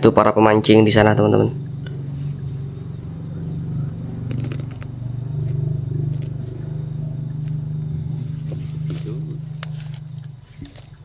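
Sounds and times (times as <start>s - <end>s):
night insects whining: 0.0s - 11.0s
small engine humming: 1.1s - 11.0s.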